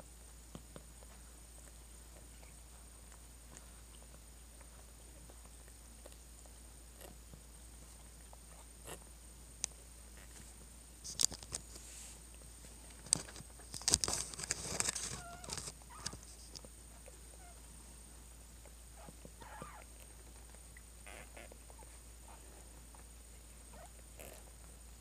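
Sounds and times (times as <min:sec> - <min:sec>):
cat licking kitten: 0:00.2 - 0:24.8.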